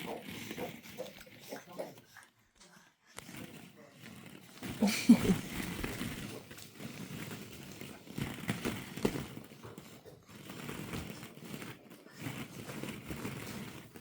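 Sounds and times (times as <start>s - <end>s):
plastic balls rattling: 0.0s - 2.3s, 3.1s - 14.0s.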